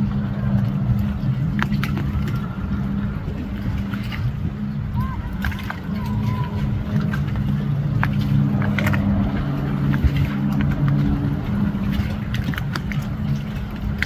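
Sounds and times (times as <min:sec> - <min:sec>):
motorboat engines humming: 0:00.0 - 0:14.0.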